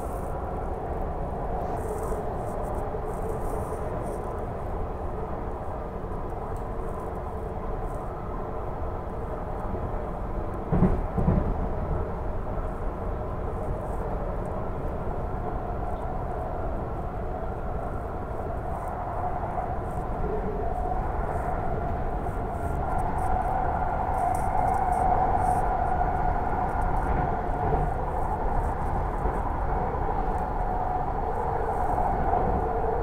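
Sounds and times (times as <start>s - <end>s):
train car rumble and whine: 0.0s - 33.0s.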